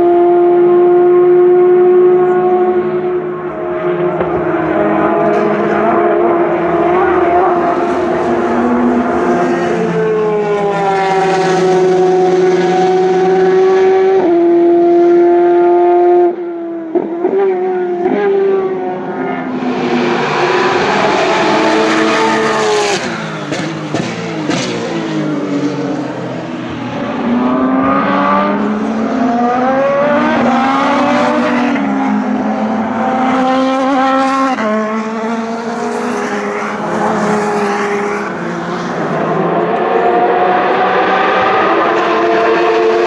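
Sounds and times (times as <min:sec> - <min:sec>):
race car engines at high revs: 0:00.0 - 0:43.0.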